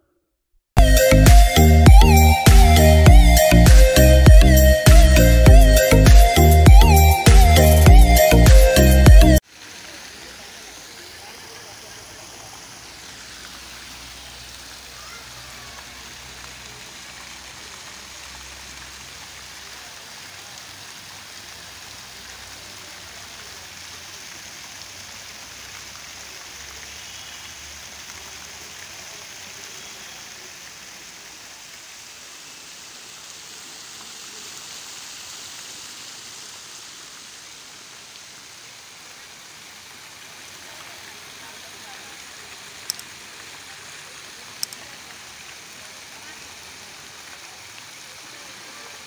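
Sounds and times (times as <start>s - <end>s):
fountain jets splashing into pond: 0.8s - 49.0s.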